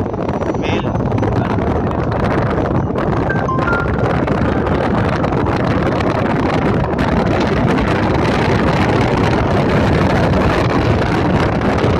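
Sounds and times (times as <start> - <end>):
car road and engine noise: 0.0 - 11.9
wind rushing over microphone: 0.0 - 11.9.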